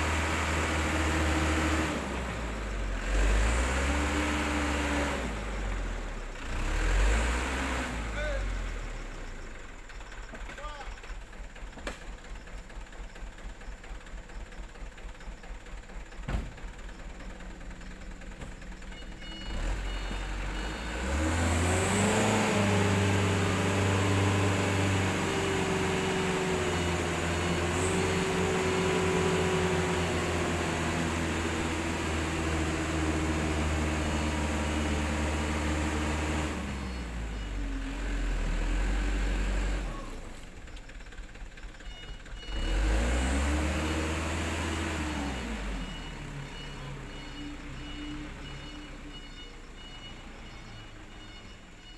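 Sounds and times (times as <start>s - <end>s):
diesel truck engine idling and revving: 0.0s - 51.9s.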